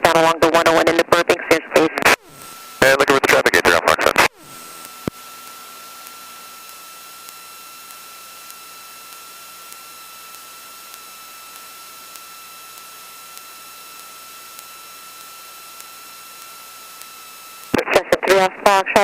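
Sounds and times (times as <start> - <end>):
constant high whine: 0.0 - 19.0
radio hiss: 0.0 - 19.0.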